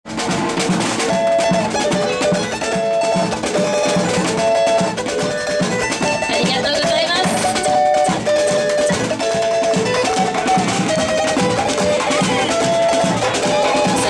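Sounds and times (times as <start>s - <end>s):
percussion: 0.0s - 14.0s
surdo bass drums: 0.0s - 14.0s
cavaquinho: 0.1s - 14.0s.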